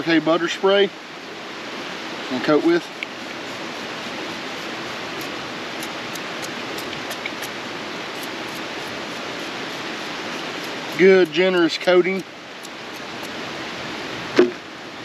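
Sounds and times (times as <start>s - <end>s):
creek flowing over rocks: 0.0s - 14.4s.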